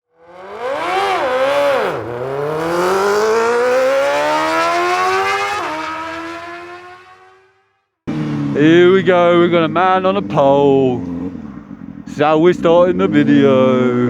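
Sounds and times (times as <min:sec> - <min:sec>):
vehicle engine revving hard: 0:00.1 - 0:14.0.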